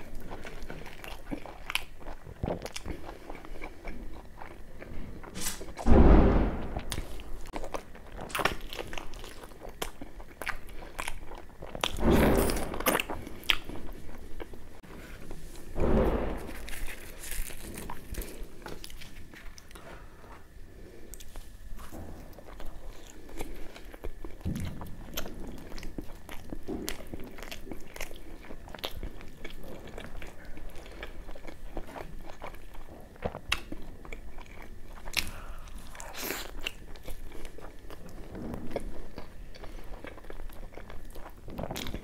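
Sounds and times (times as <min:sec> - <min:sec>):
person chewing and biting food: 0:00.0 - 0:14.6, 0:15.2 - 0:20.5, 0:21.1 - 0:42.0.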